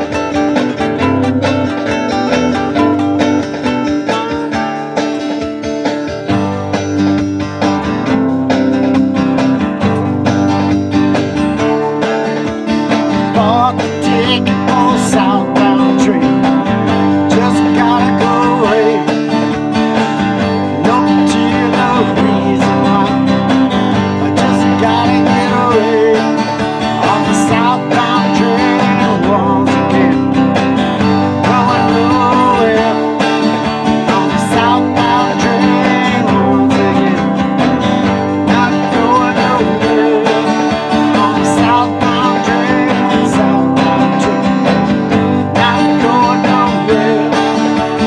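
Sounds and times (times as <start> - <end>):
country song on acoustic guitar: 0.0 - 48.0.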